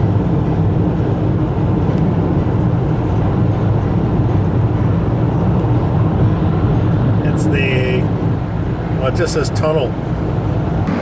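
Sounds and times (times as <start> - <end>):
car driving through tunnel: 0.0 - 11.0.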